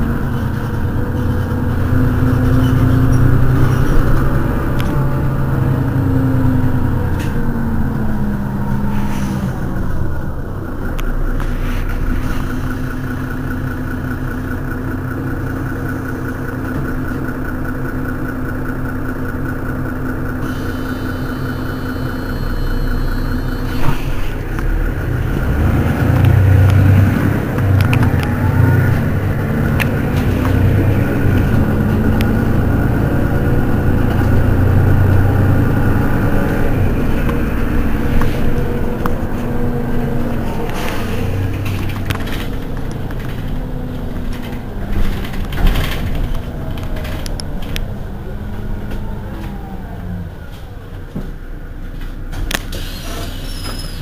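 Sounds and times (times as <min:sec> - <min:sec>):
bus engine idling: 0:00.0 - 0:54.0.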